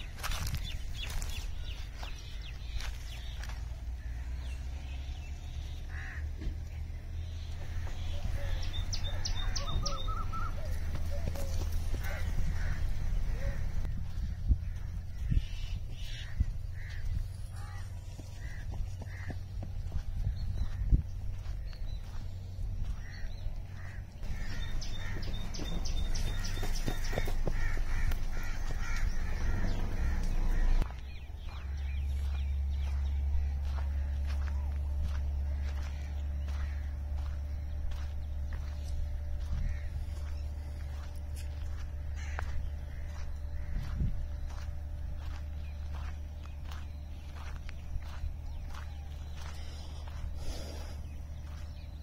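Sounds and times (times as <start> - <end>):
crows cawing: 0.0 - 4.6, 5.6 - 6.7, 7.4 - 22.2, 22.8 - 50.8
birds chirping: 0.0 - 52.0
steady low rumble: 0.0 - 52.0.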